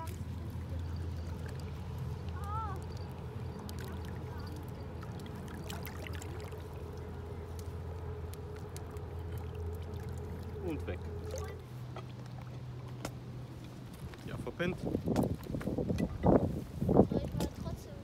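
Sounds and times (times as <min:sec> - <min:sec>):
steady low hum: 0:00.0 - 0:18.0
water lapping among rocks: 0:00.0 - 0:18.0.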